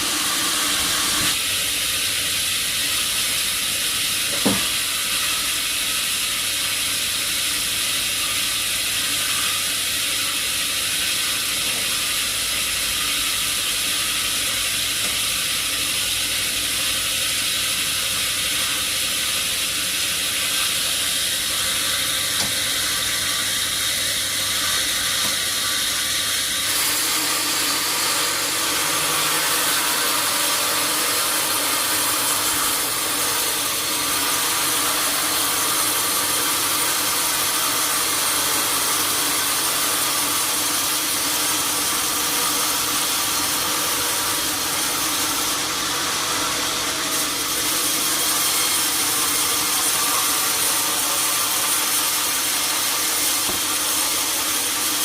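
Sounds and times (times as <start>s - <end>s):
sawmill saw running: 0.0s - 55.0s.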